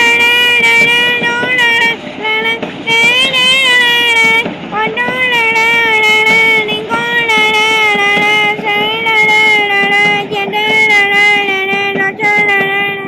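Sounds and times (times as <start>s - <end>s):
train high wavering tone: 0.0s - 13.0s.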